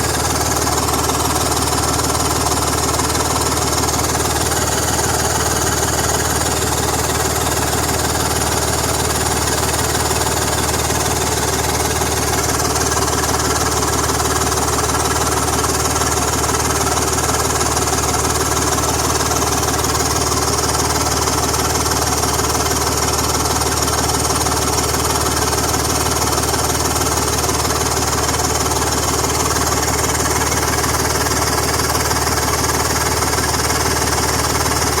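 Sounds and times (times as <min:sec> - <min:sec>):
car engine running: 0:00.0 - 0:35.0
fast regular exhaust ticking: 0:00.0 - 0:35.0.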